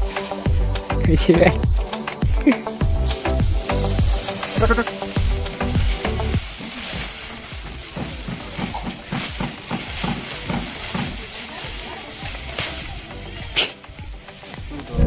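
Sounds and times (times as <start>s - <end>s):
dry straw rustling and crackling: 0.0s - 15.0s.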